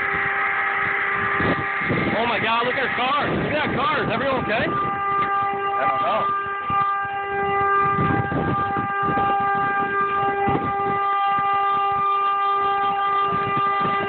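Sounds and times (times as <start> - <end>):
car horn blaring: 0.0 - 14.0.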